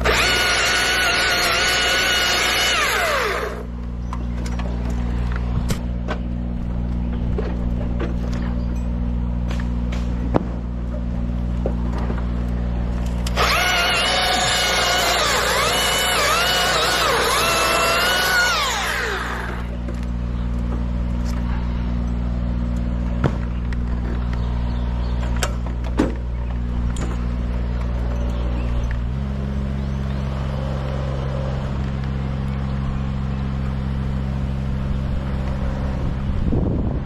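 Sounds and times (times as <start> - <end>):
engine running: 0.0 - 37.0.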